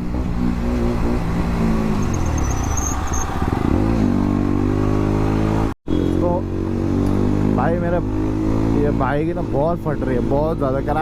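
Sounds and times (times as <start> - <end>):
motorcycle engine under hard throttle: 0.0 - 11.0.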